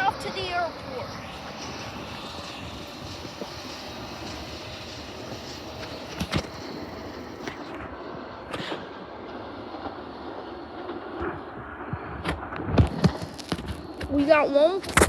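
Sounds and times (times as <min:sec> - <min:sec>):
electric train wheels rumbling: 0:00.0 - 0:15.0.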